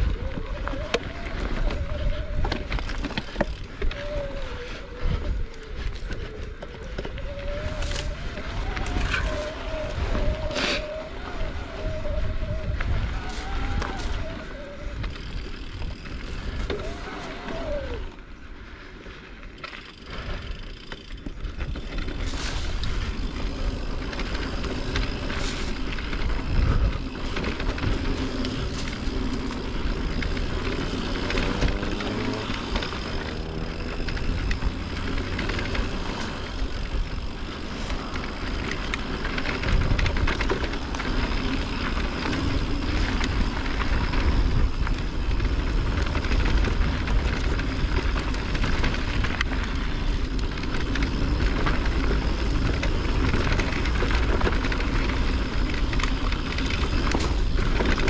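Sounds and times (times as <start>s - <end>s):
bike rattling: 0.0s - 58.0s
bike tyres rolling on dirt: 0.0s - 58.0s
wind rumbling on microphone: 0.0s - 58.0s.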